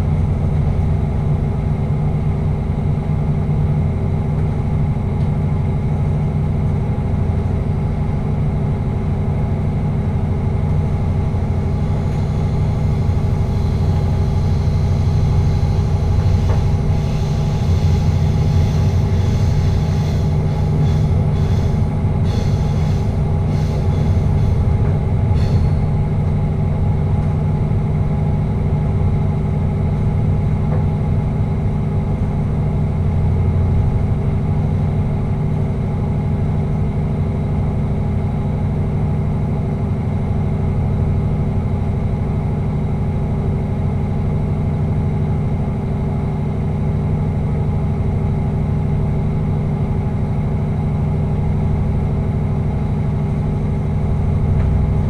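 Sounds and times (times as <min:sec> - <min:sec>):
train rumbling through tunnel: 0:00.0 - 0:55.0.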